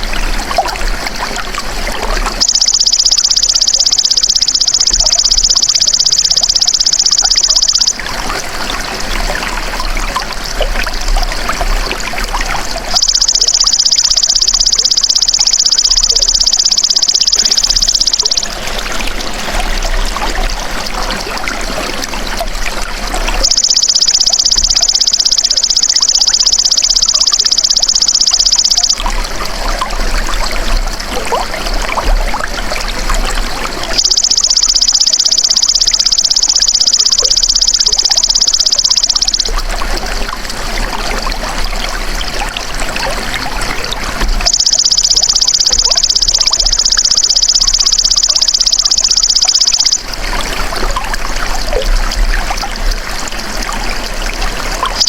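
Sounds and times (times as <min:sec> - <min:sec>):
trickling running water: 0:00.0 - 0:55.0.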